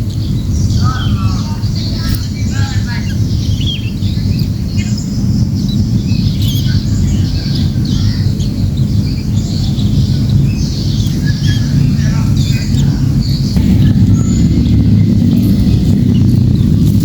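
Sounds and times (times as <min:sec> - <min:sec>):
birds chirping and squawking: 0:00.0 - 0:17.0
steady low rumble: 0:00.0 - 0:17.0.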